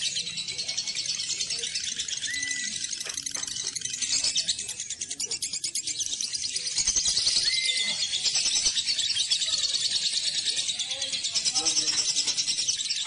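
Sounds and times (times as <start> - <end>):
lovebird high-pitched trill: 0.0 - 13.0.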